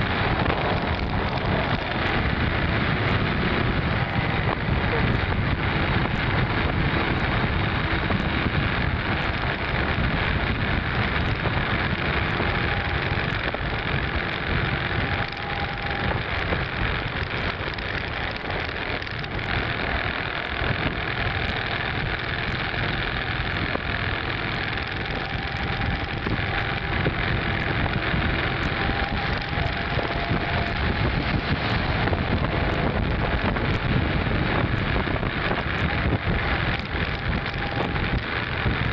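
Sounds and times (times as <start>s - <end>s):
motorcycle engine running: 0.0s - 38.9s
wind on microphone: 0.0s - 38.9s.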